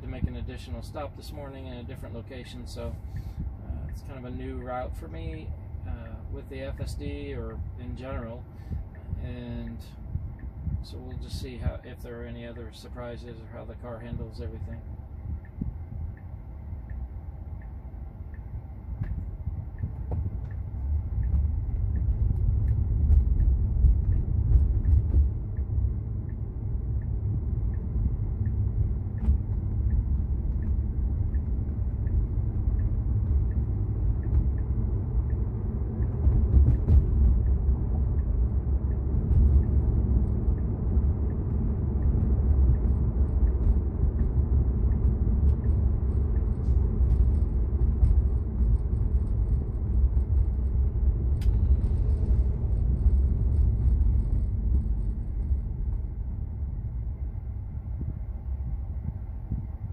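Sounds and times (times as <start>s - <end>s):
road and tyre rumble in car cabin: 0.0s - 59.9s
turn signal ticking: 0.0s - 59.9s.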